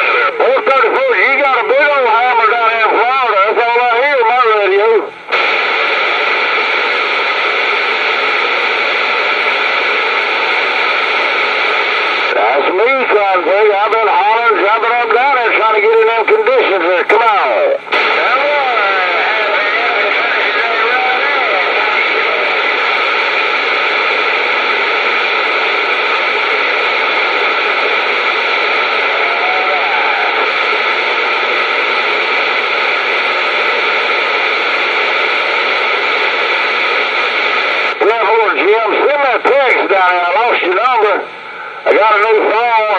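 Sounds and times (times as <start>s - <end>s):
radio static hiss: 0.0s - 42.9s.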